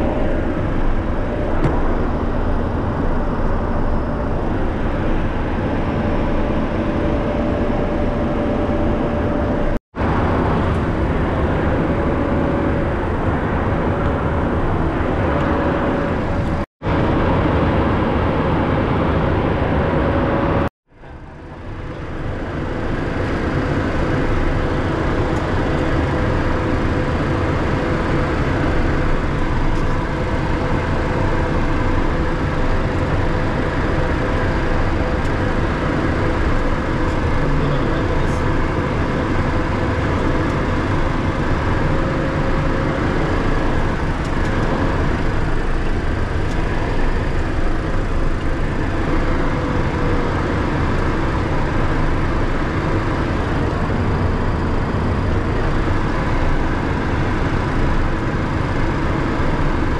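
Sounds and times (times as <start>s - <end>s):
airflow over cockpit: 0.0s - 59.9s
jet engines humming: 0.0s - 59.9s.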